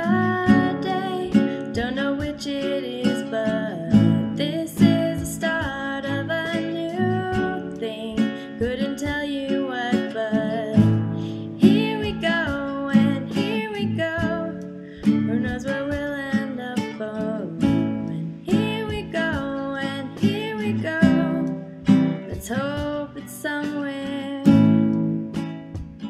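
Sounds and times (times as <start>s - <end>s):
person singing: 0.0s - 24.9s
strummed acoustic guitar: 0.0s - 26.0s.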